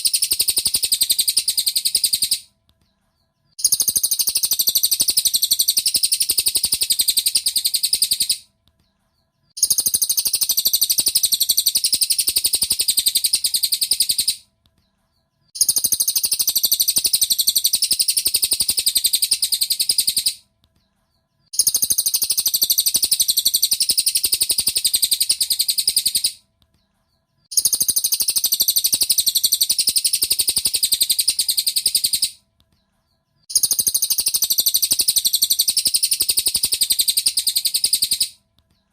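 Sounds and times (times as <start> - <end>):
bird chattering trill: 0.0 - 2.5, 3.6 - 8.4, 9.6 - 14.4, 15.6 - 20.4, 21.5 - 26.4, 27.5 - 32.4, 33.5 - 38.4.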